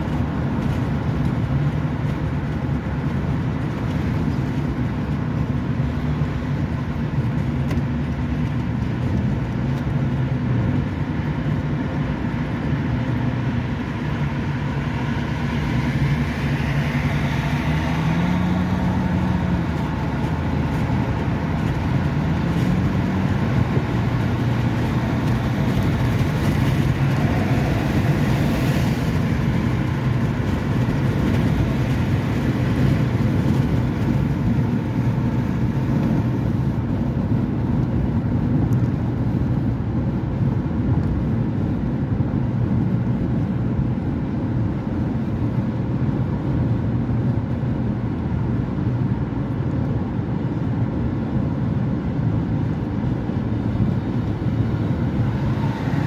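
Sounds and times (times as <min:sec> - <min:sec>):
road traffic engine hum: 0:00.0 - 0:56.0.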